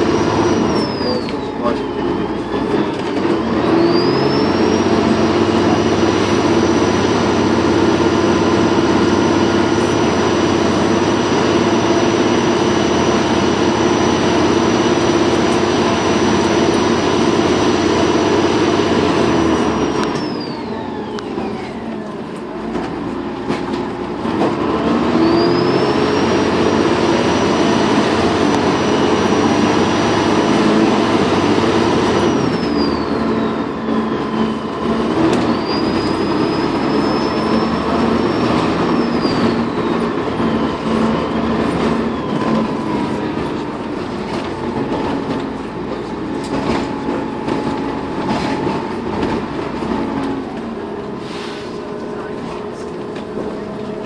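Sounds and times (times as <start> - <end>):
turbocharger whistling: 0.0 - 22.2, 24.1 - 52.8
diesel engine under load: 0.0 - 54.0.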